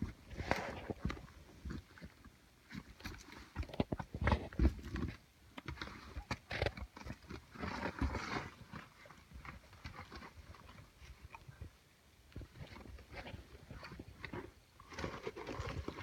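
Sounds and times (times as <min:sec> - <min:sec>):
clothing scraping against rock: 0:00.0 - 0:11.2, 0:12.4 - 0:16.0.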